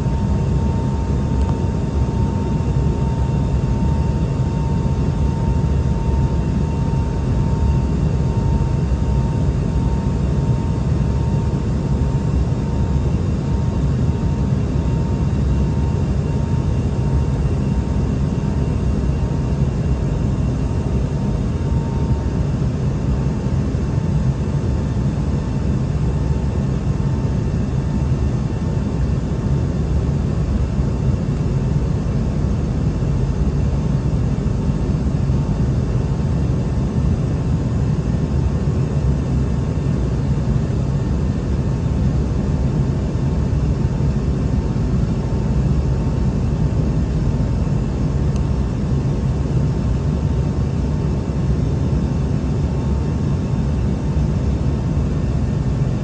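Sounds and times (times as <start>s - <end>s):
faint steady whine: 0.0s - 56.0s.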